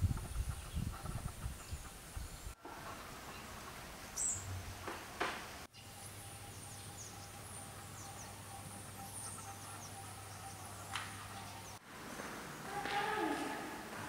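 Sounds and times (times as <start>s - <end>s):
small birds chirping: 0.0s - 4.6s, 5.6s - 13.2s.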